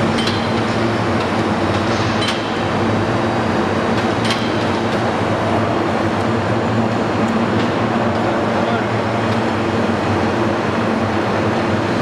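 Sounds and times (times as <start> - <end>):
industrial machinery hum: 0.0 - 12.0.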